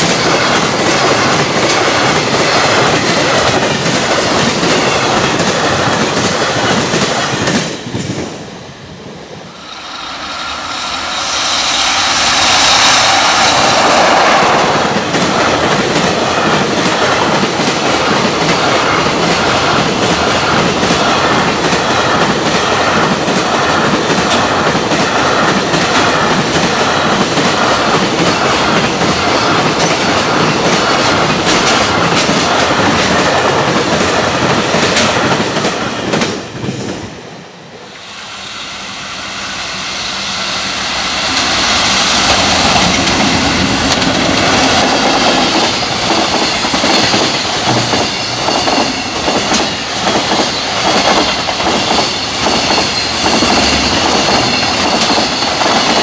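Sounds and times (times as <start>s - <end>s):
train wheels clacking over rail joints: 0.0s - 8.2s, 9.8s - 36.8s, 42.2s - 56.0s
approaching freight train rumble: 0.0s - 56.0s.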